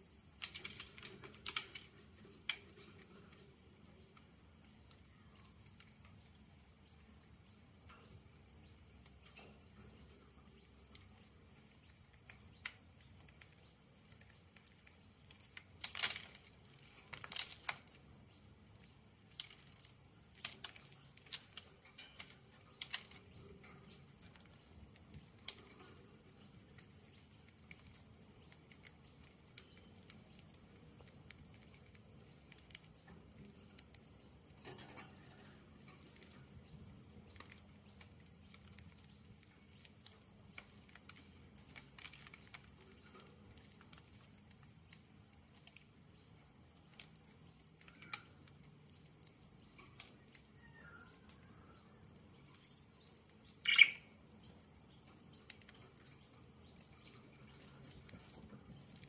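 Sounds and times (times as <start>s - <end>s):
birds cracking seeds: 0.0s - 59.0s.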